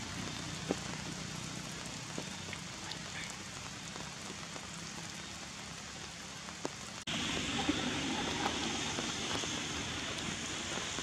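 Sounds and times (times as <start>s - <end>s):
rain hiss with faint ticks: 0.0s - 11.0s.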